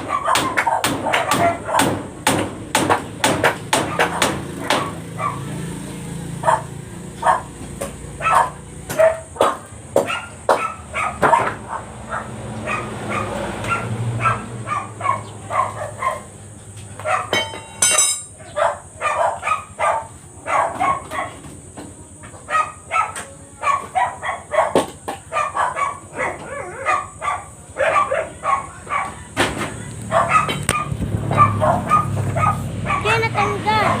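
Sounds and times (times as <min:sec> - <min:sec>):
dog barking: 0:00.0 - 0:02.1, 0:03.7 - 0:05.6, 0:06.3 - 0:16.4, 0:17.0 - 0:21.5, 0:22.4 - 0:34.0.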